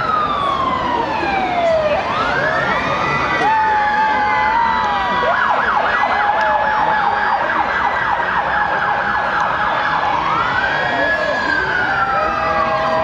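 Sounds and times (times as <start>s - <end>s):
police siren yelp and wail: 0.0s - 13.0s.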